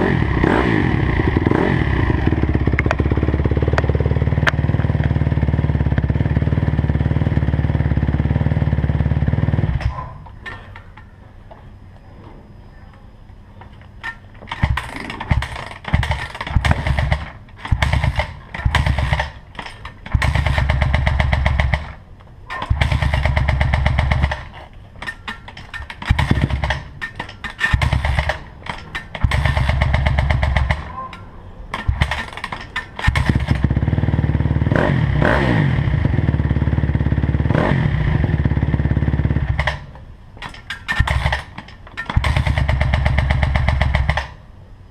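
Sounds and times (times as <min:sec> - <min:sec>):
motorcycle engine revving: 0:00.0 - 0:10.0, 0:14.5 - 0:24.7, 0:25.7 - 0:31.0, 0:31.7 - 0:40.0, 0:40.9 - 0:44.4.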